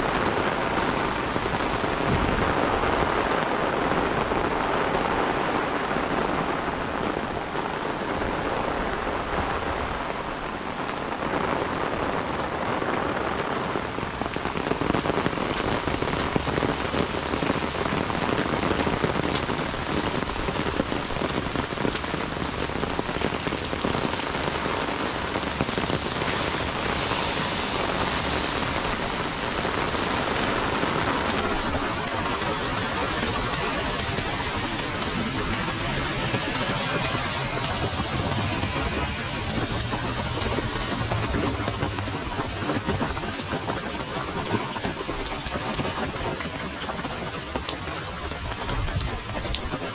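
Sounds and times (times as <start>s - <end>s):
heavy rain on concrete: 0.0s - 49.9s.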